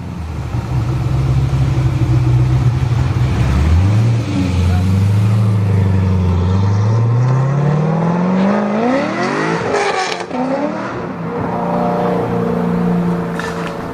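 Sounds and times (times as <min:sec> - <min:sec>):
car engine accelerating: 0:00.0 - 0:13.9.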